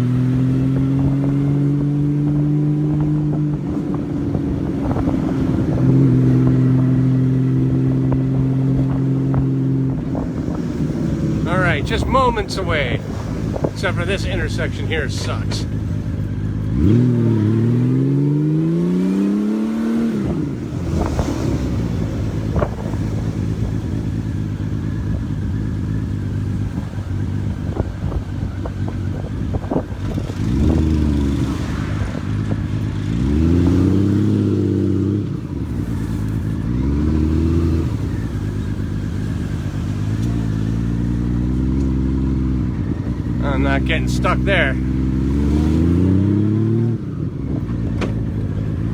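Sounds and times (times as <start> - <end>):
motorcycle engine revving: 0.0 - 12.0, 12.7 - 14.0, 15.5 - 48.9.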